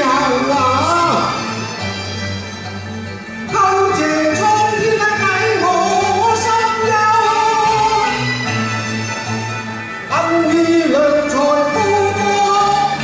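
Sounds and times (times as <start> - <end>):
sliding melodic instrumental accompaniment: 0.0 - 13.0.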